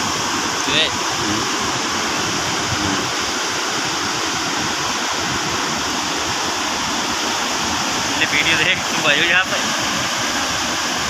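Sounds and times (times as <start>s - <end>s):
waterfall crashing: 0.0s - 11.0s.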